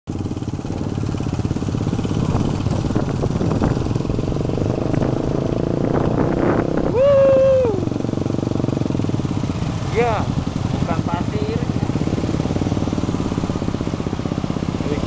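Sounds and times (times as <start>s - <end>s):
motorcycle engine running: 0.1s - 15.0s.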